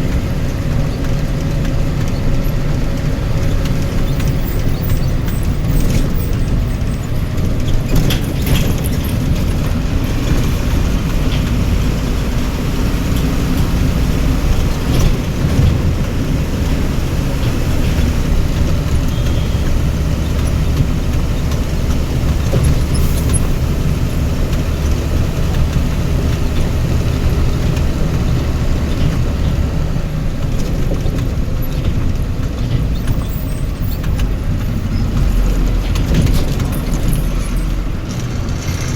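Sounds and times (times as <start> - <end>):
road noise: 0.0 - 38.9
vehicle engine rumbling: 0.0 - 38.9.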